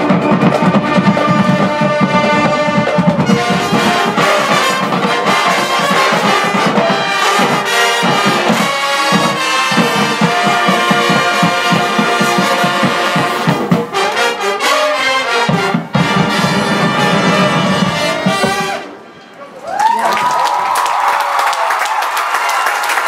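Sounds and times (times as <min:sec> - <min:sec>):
percussion: 0:00.0 - 0:18.9
marching band brass playing: 0:00.0 - 0:19.2.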